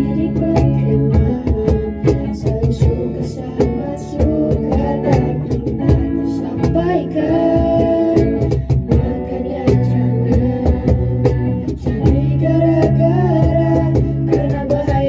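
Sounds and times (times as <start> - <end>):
drum kit beat: 0.0 - 15.0
girls singing in unison: 0.0 - 15.0
guitar: 0.0 - 15.0.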